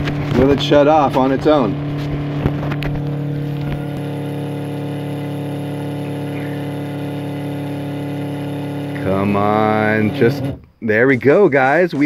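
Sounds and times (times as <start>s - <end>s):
water pump humming: 0.0s - 10.6s.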